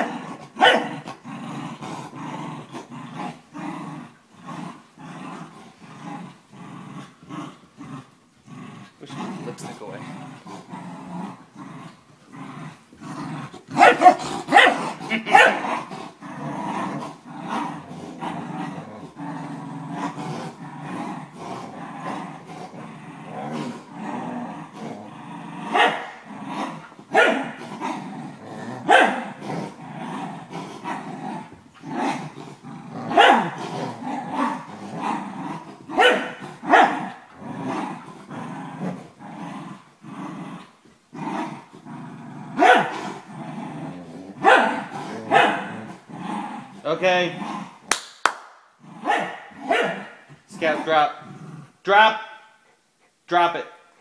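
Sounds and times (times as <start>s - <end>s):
dogs play growling: 0.0s - 48.0s, 48.7s - 51.8s.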